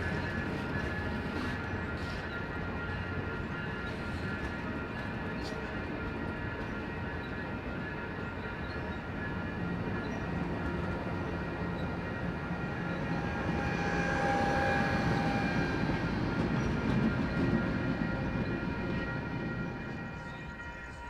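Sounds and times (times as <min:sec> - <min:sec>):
passenger train rumbling past: 0:00.0 - 0:21.0.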